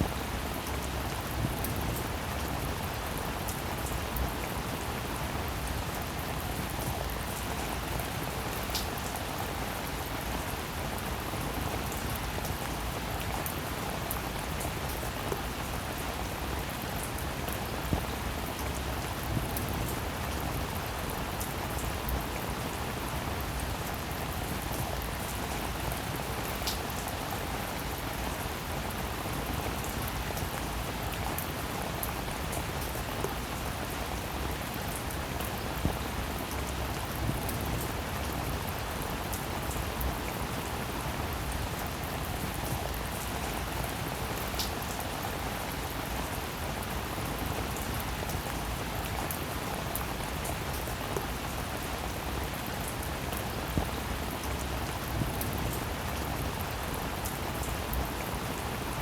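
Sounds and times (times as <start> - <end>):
dense rainfall: 0.0 - 59.0.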